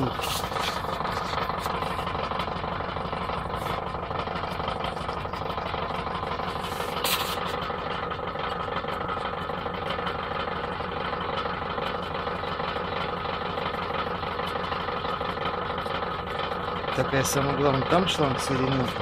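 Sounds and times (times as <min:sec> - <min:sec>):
compressor humming: 0:00.0 - 0:19.0.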